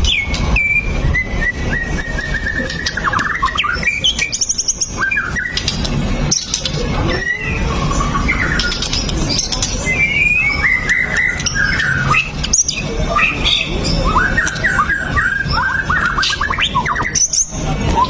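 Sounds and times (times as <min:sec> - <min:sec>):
songbird singing whistles and trills: 0:00.0 - 0:18.0.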